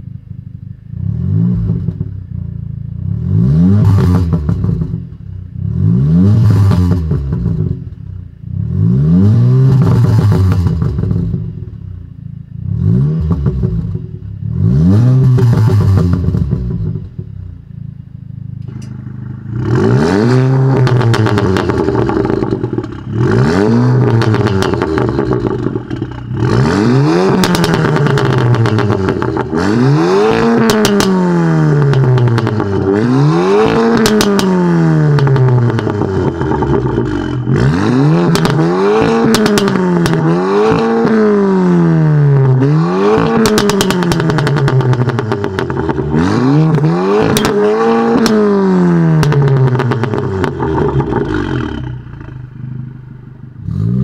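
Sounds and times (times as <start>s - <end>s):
car engine revving: 0.7s - 54.0s
exhaust crackles: 0.7s - 54.0s.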